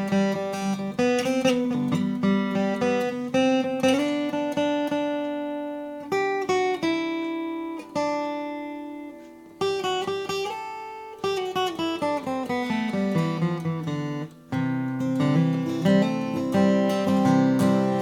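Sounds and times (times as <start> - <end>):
acoustic guitar picking and chords: 0.0 - 18.0.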